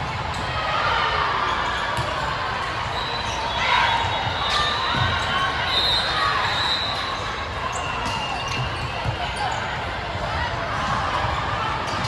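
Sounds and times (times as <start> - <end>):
hum of crowd and players: 0.0 - 12.0.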